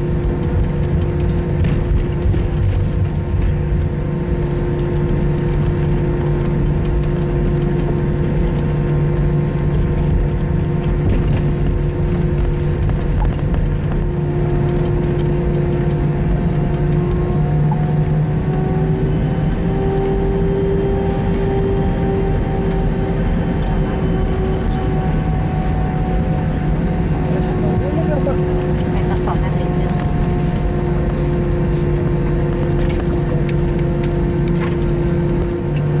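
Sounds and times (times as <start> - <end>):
aircraft cabin engine drone: 0.0 - 36.0.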